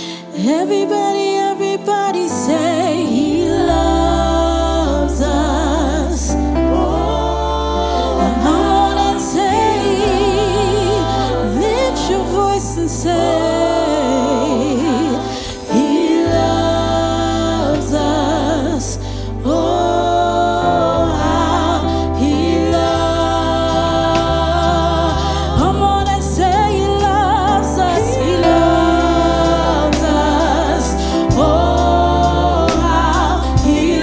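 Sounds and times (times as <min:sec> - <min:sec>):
singing with strong vibrato: 0:00.0 - 0:34.0
long held bass notes: 0:03.1 - 0:34.0.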